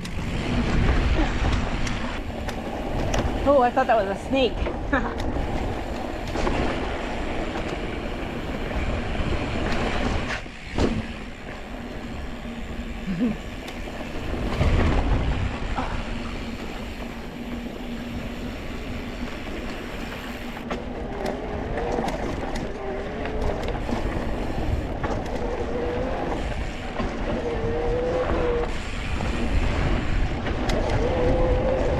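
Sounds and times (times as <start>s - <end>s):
bike rattling and knocking: 0.0s - 31.9s
bike tyres rumbling on rock: 0.0s - 31.9s
wind noise on microphone: 0.0s - 31.9s.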